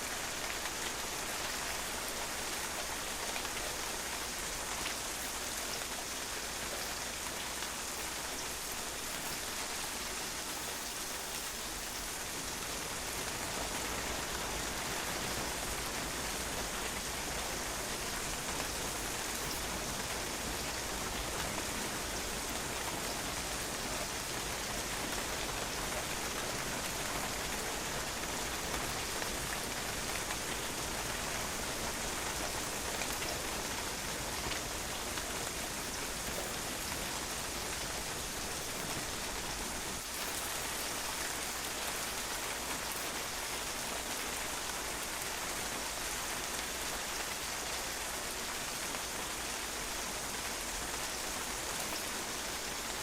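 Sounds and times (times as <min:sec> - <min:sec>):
rain falling on hard surface: 0:00.0 - 0:53.0.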